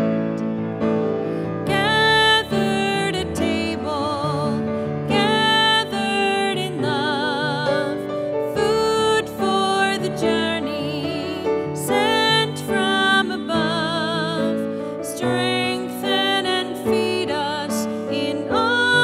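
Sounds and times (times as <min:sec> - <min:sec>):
piano accompaniment: 0:00.0 - 0:19.0
person singing a hymn with vibrato: 0:01.6 - 0:19.0.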